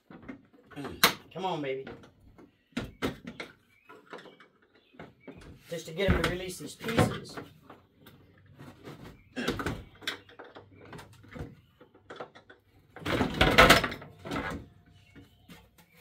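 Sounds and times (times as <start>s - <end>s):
plastic parts clunking and rattling: 0.0s - 16.0s.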